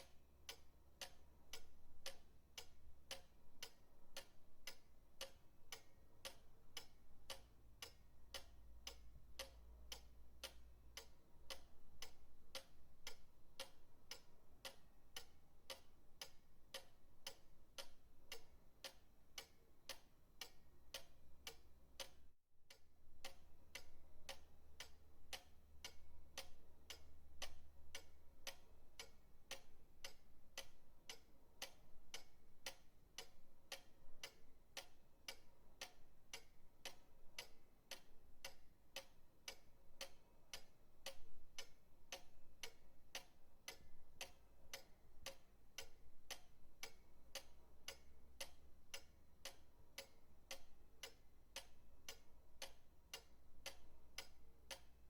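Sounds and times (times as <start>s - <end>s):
pendulum clock ticking: 0.0s - 55.0s.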